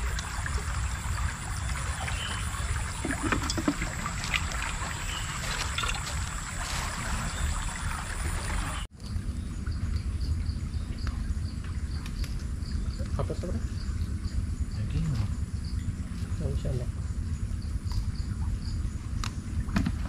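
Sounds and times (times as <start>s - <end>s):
insects chirping: 0.0s - 20.0s
river water trickling: 0.0s - 20.0s.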